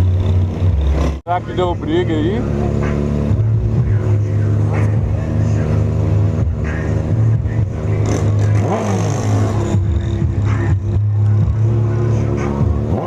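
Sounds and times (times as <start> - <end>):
bass-heavy music from car stereo: 0.0 - 13.0.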